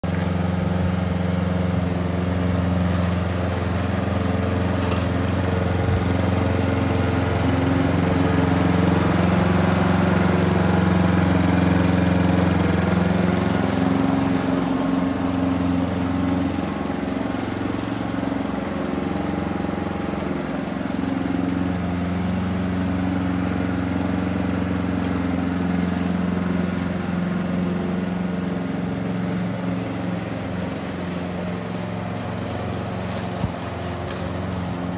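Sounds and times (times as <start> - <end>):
lawn mower cutting grass: 0.0 - 34.9.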